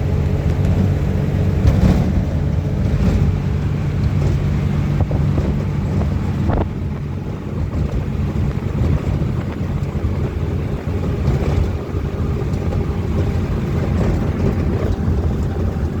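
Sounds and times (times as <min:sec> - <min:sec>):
engine running low rumble: 0:00.0 - 0:16.0.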